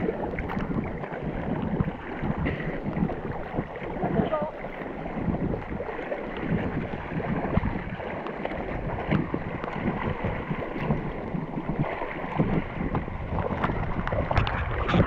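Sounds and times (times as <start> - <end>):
sea water sloshing and splashing: 0.0 - 15.0
wind buffeting microphone: 0.0 - 15.0.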